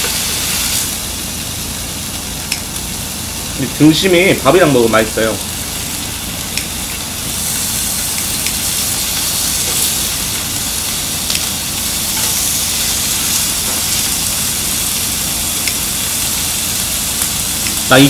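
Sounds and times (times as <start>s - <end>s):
meat sizzling on grill: 0.0s - 18.0s.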